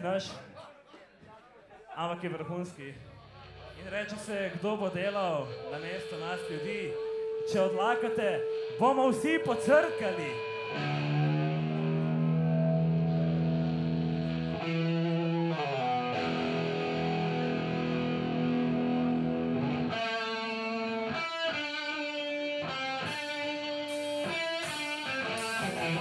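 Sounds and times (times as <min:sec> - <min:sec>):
electric guitar chords: 0:03.4 - 0:26.0.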